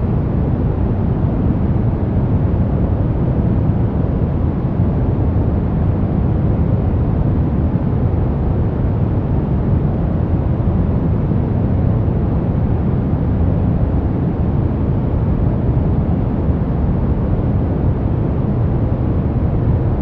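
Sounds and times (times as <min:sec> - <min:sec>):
brown noise rumbling hiss: 0:00.0 - 0:20.0.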